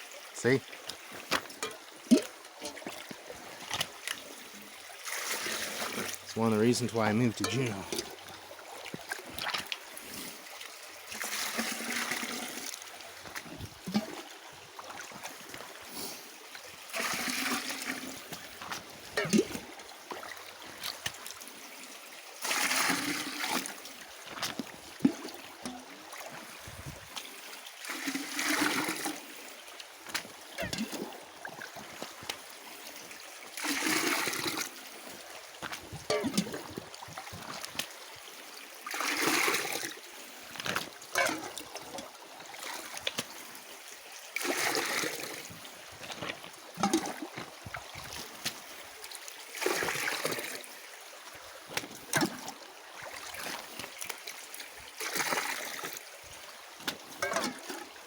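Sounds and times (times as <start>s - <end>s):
water poured into bucket: 0.0s - 21.8s, 22.4s - 32.4s, 33.0s - 38.0s, 38.8s - 43.6s, 44.3s - 50.8s, 51.6s - 56.2s, 56.8s - 58.0s
trickle of running water: 0.0s - 58.0s.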